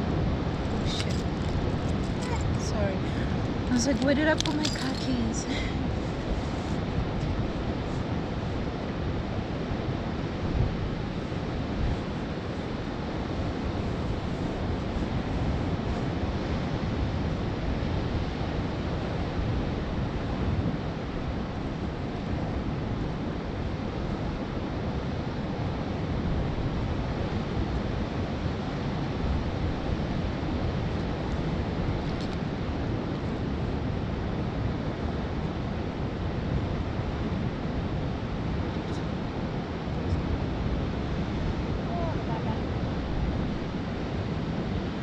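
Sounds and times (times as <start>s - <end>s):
sea surf: 0.0s - 45.0s
wind buffeting microphone: 0.0s - 45.0s.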